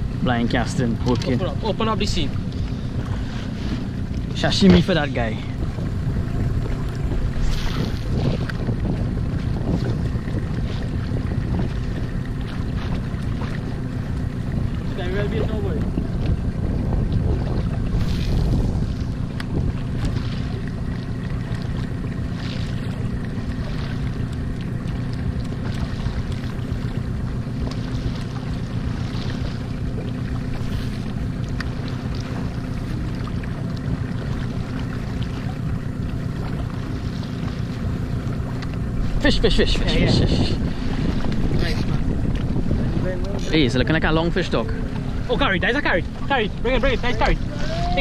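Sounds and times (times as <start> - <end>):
boat engine hum: 0.0 - 48.0
water splashing against hull: 0.0 - 48.0
wind buffeting microphone: 0.0 - 48.0.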